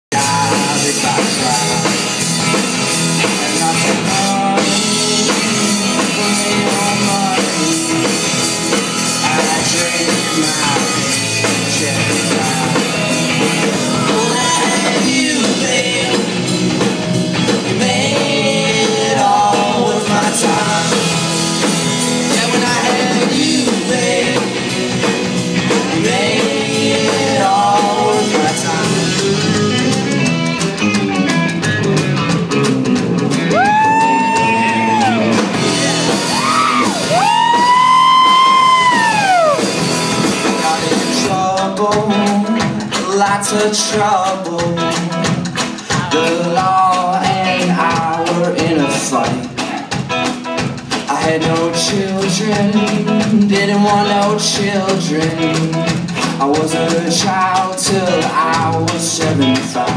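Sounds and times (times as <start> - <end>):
drum kit: 0.1 - 59.9
electric bass: 0.1 - 59.9
electric guitar: 0.1 - 59.9.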